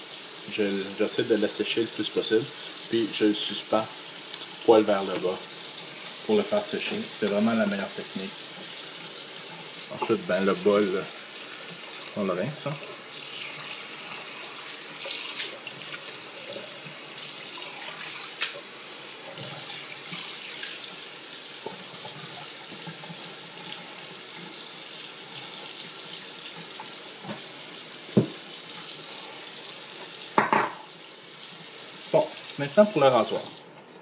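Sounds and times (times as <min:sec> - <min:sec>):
tap water running into sink: 0:00.0 - 0:33.7.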